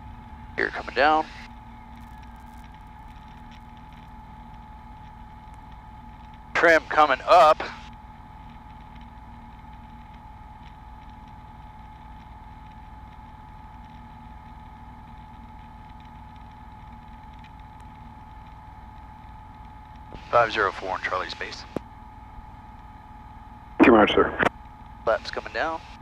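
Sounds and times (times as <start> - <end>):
thin high whine: 0.0 - 26.0.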